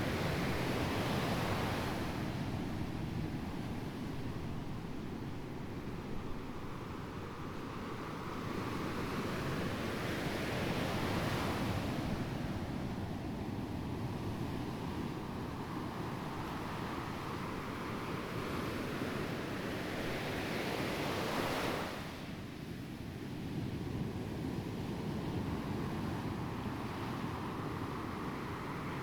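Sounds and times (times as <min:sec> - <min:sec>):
low rumble of surf: 0:00.0 - 0:29.0.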